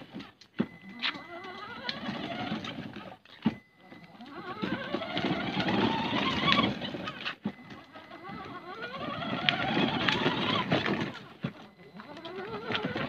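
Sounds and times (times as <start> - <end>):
toy car electric motors whining: 0.0 - 13.0.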